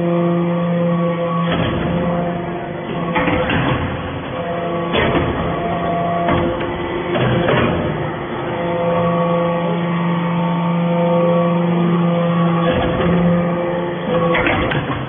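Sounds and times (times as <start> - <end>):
hydraulic press humming: 0.0 - 15.0.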